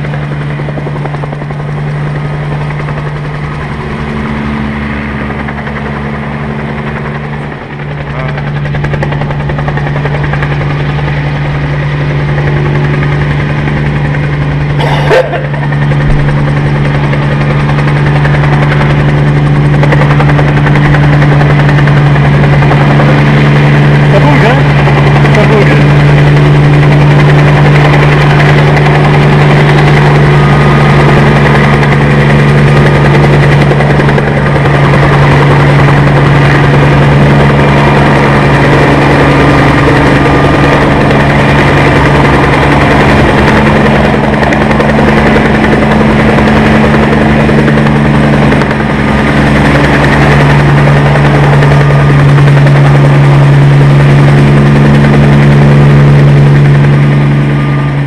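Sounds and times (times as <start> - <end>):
helicopter piston engine idling: 0.0 - 58.0.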